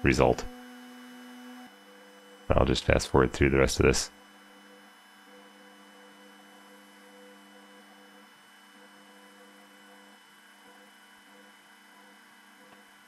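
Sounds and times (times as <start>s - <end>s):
faint steady hum: 1.5s - 13.0s.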